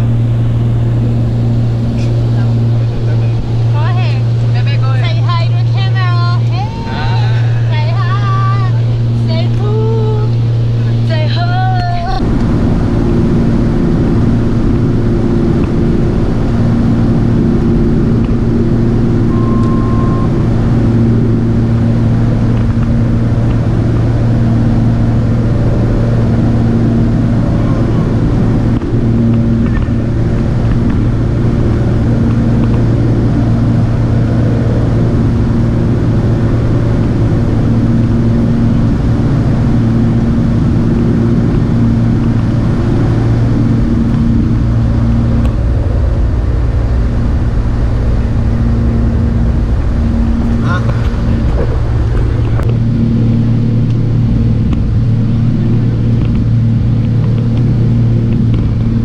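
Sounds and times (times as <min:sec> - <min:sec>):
airflow noise: 0:00.0 - 0:59.0
propeller engine droning: 0:00.0 - 0:59.0.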